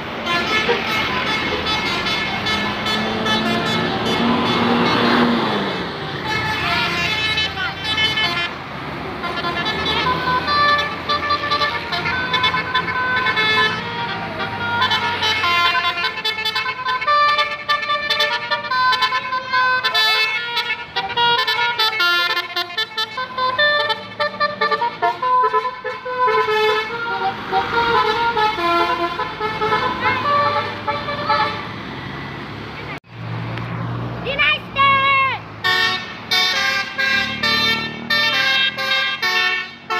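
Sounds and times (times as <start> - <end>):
melodic bus horn tune: 0.0 - 31.8, 34.8 - 39.9
bus engine running: 0.0 - 39.9.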